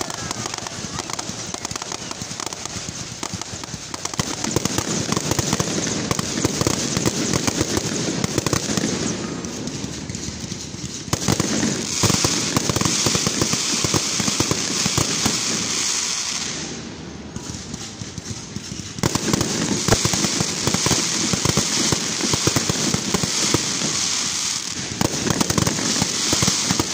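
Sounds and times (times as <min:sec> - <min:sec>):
fireworks crackling and banging: 0:00.0 - 0:26.9
hissing crackle: 0:00.0 - 0:26.9.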